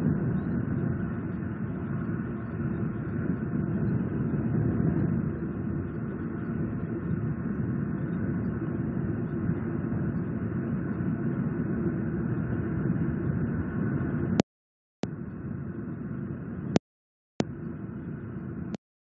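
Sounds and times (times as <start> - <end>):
low rumbling background noise: 0.0 - 14.4, 15.0 - 16.8, 17.4 - 18.8.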